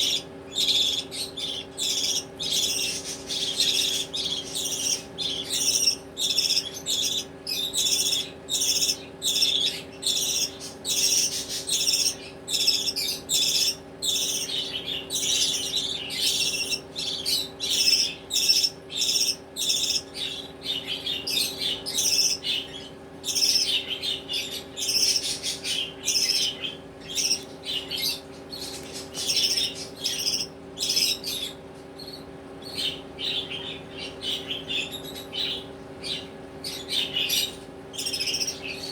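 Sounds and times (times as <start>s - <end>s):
budgerigar chicks chirping: 0.0s - 38.9s
steady low hum: 0.0s - 38.9s.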